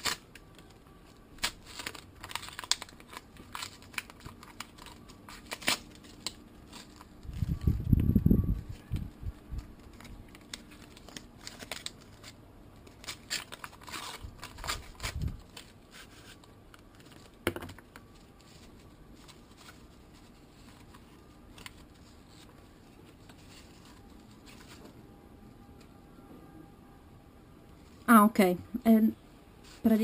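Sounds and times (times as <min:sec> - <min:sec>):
paper wrapping crinkling and tearing: 0:00.0 - 0:17.4, 0:18.1 - 0:24.8.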